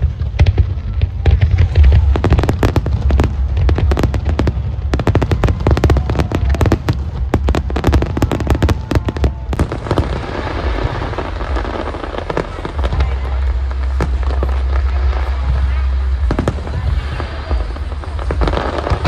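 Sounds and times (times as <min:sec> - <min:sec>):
deep firework booms: 0:00.0 - 0:19.0
fireworks crackling and popping: 0:00.0 - 0:19.0.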